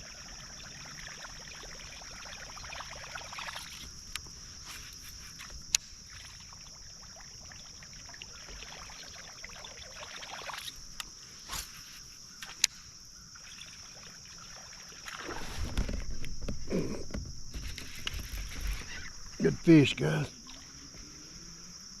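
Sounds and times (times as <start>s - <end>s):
creek water trickling: 0.0s - 22.0s
insect chorus: 0.0s - 22.0s.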